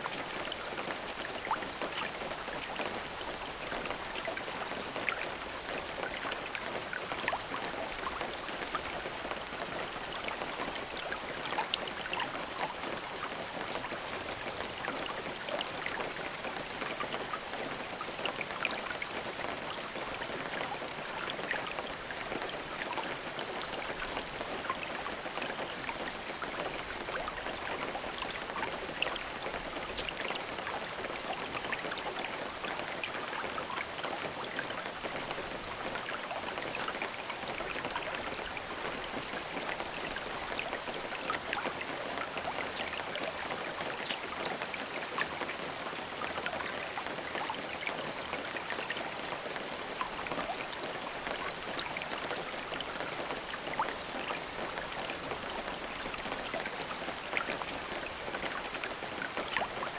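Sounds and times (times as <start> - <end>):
rain drops pattering: 0.0 - 59.9.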